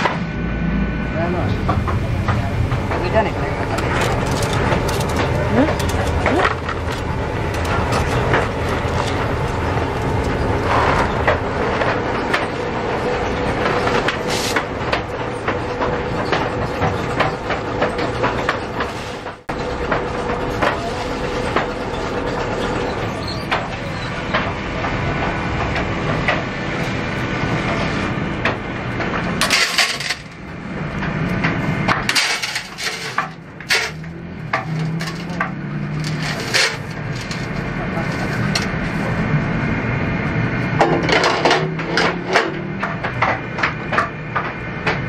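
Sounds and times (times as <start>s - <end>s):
machine running: 0.0s - 45.0s.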